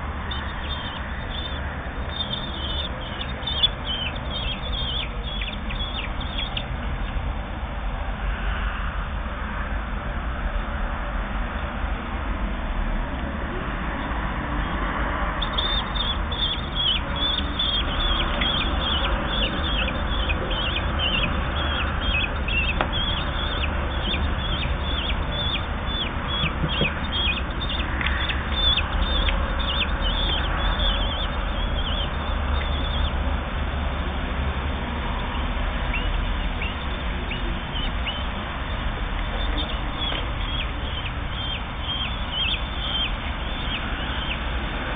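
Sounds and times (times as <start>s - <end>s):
bird chicks begging calls: 0.0s - 7.2s, 14.6s - 44.9s
steady low rumble: 0.0s - 44.9s.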